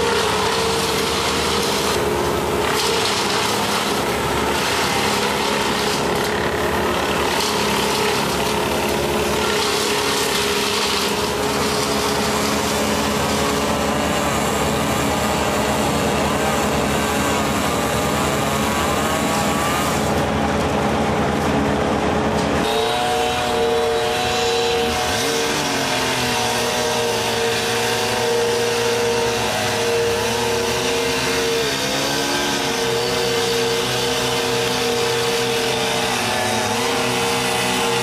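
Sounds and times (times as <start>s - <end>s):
engine running at high speed: 0.0s - 38.0s.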